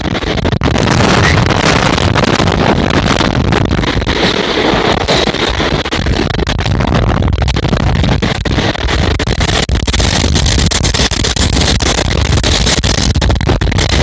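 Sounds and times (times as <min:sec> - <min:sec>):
train rumble and air rush: 0:00.0 - 0:11.9.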